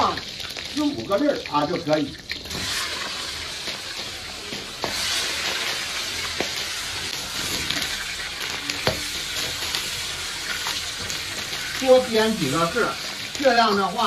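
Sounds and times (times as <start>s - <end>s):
spices sizzling in hot oil: 0.0s - 14.0s.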